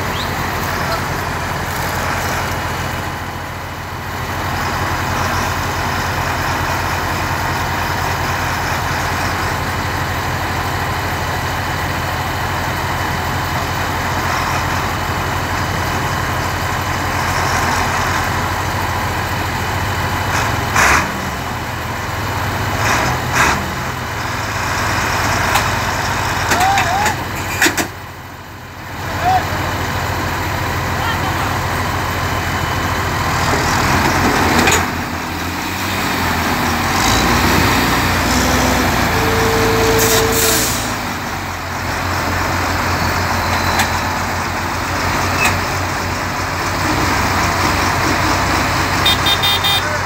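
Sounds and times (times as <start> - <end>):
tractor diesel engines under load: 0.0 - 50.0.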